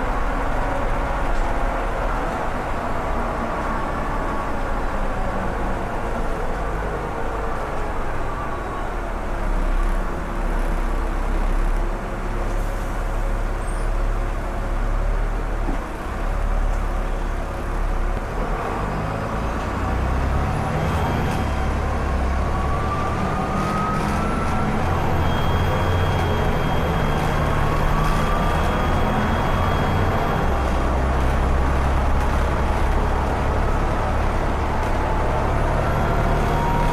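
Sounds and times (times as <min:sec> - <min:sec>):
bus diesel engine running: 0:00.0 - 0:36.9.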